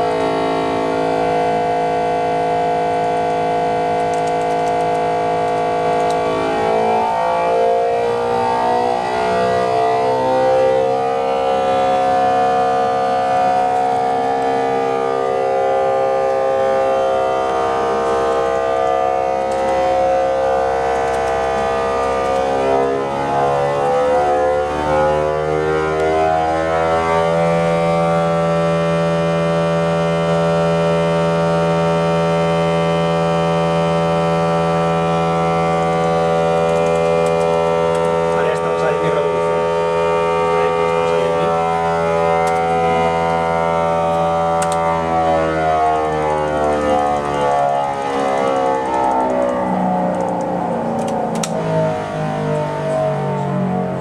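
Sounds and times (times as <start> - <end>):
muffled motorcycle engine revving high: 0.0 - 54.0.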